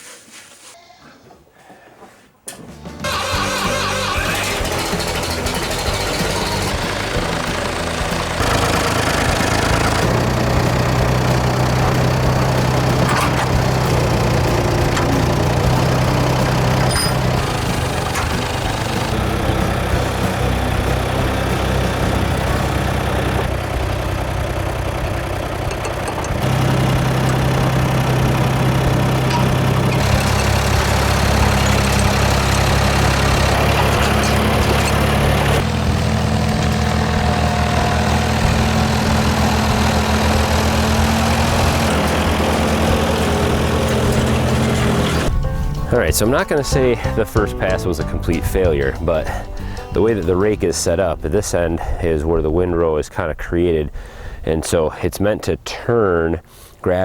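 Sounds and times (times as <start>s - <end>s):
tractor engine running: 2.6s - 54.6s.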